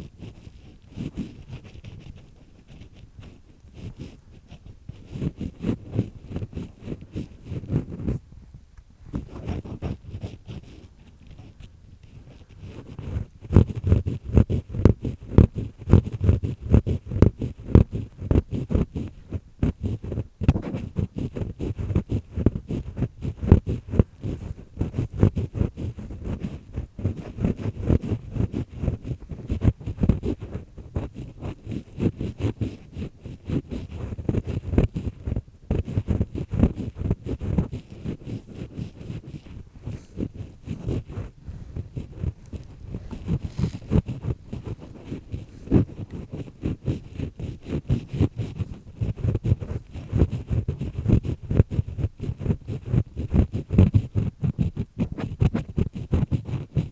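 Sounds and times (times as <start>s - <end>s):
ear pick scraping inside ear: 0.0s - 8.3s, 9.0s - 56.9s.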